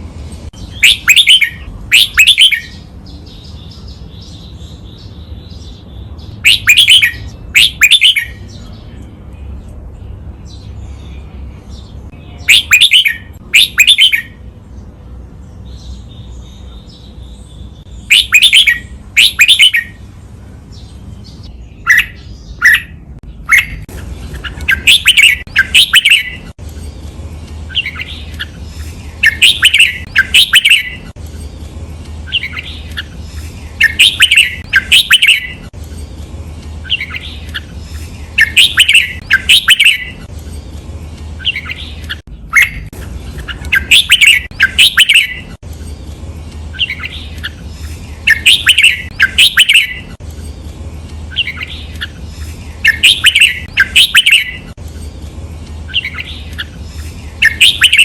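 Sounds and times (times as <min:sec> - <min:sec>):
bulbul singing: 0:00.0 - 0:58.0.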